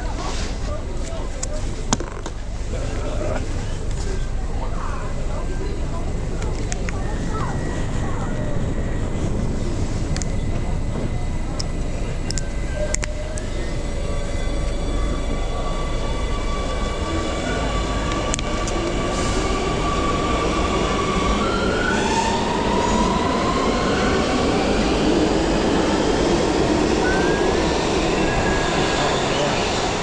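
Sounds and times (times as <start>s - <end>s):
metro train rumbling: 0.0s - 30.0s.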